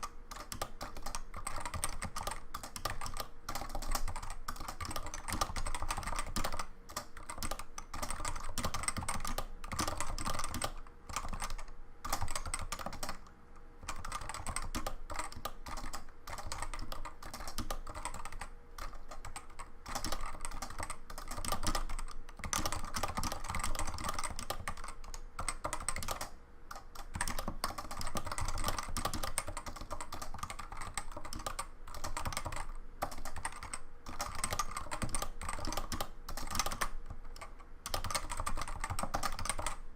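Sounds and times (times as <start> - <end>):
fast keyboard typing: 0.0 - 39.8.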